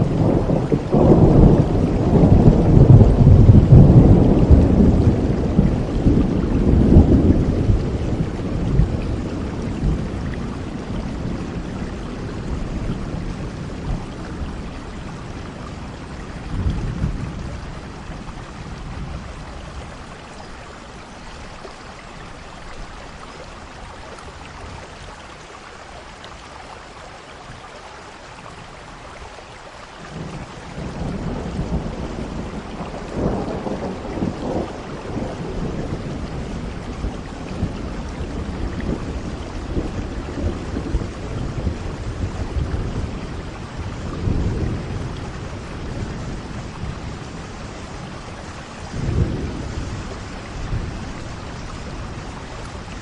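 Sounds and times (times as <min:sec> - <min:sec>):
rolling thunder: 0:00.0 - 0:20.6, 0:30.1 - 0:53.0
steady rain: 0:00.0 - 0:53.0.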